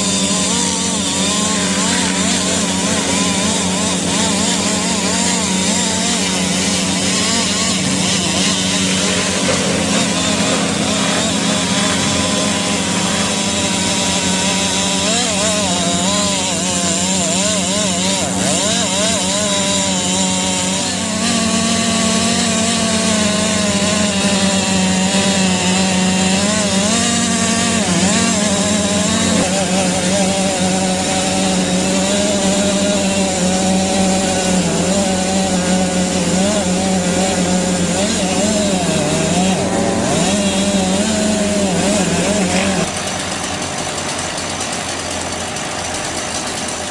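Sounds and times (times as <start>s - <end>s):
chainsaw cutting a tree trunk: 0.0s - 46.9s.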